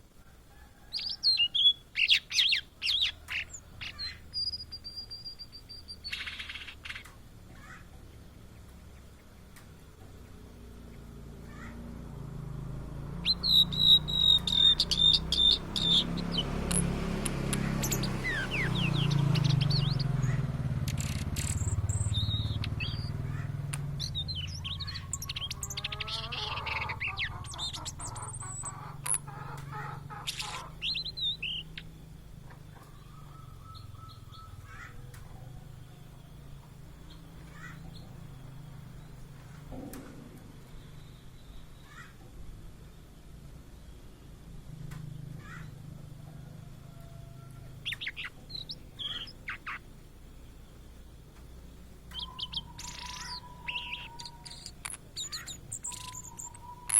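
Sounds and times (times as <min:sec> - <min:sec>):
bird singing: 0:00.0 - 0:56.9
low background hum: 0:00.0 - 0:56.9.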